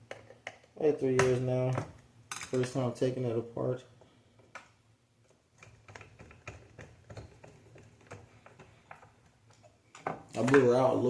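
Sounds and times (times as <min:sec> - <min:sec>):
plastic parts clicking and tapping: 0:00.0 - 0:02.8, 0:04.4 - 0:10.8.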